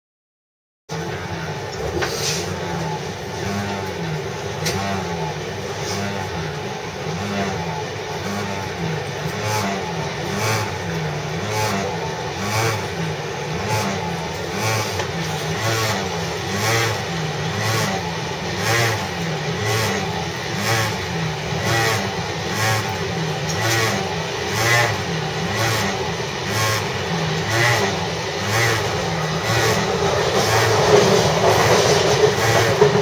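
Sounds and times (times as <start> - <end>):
pulsing electric train drone: 0.9 - 33.0.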